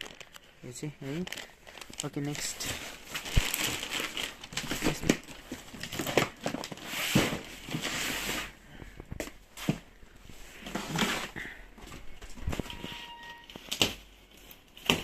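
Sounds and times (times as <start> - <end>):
plastic bags and boxes rustling: 0.0 - 15.0.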